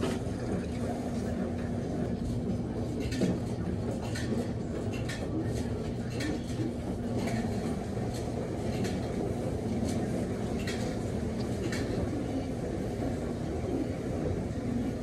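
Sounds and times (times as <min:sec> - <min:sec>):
washers and dryers running: 0:00.0 - 0:15.0.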